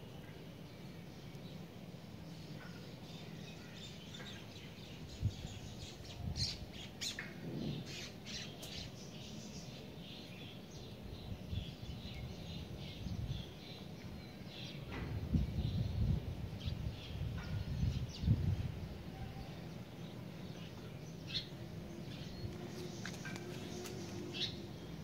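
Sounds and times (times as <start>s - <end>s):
small birds chirping: 0.6s - 25.0s.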